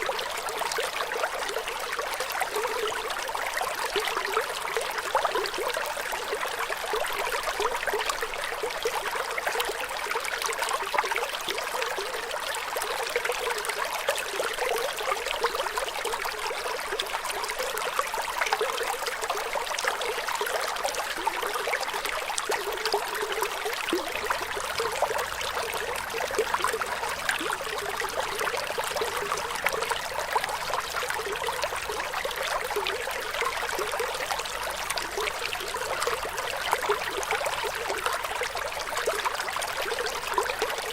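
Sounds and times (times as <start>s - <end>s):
flowing water splashing: 0.0s - 40.9s.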